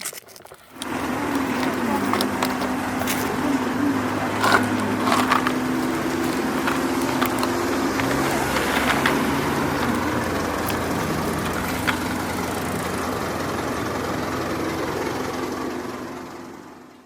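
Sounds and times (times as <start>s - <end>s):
heavy machinery engine idling: 0.7s - 16.9s.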